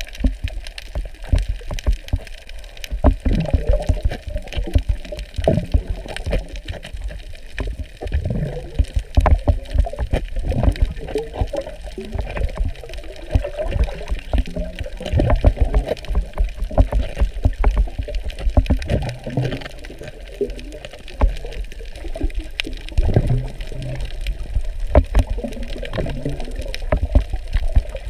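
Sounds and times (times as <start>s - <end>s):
low underwater knocks and rumbles: 0.0s - 28.0s
underwater gurgling and sloshing: 0.0s - 28.0s.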